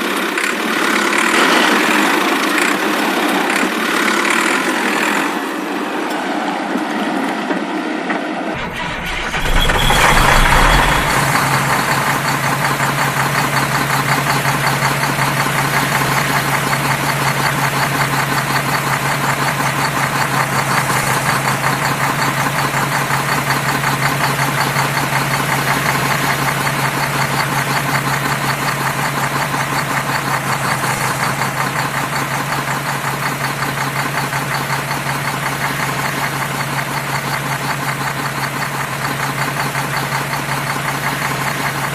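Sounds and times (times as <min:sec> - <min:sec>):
vehicle engine knocking: 0:00.0 - 0:05.4, 0:08.8 - 0:41.9.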